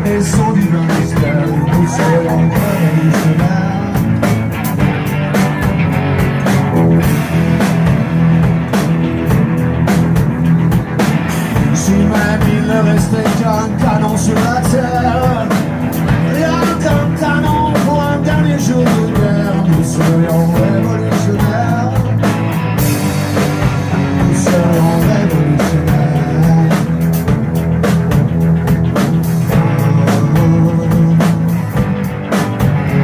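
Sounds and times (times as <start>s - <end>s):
drum hits: 0.0s - 33.0s
live rock band playing: 0.0s - 33.0s.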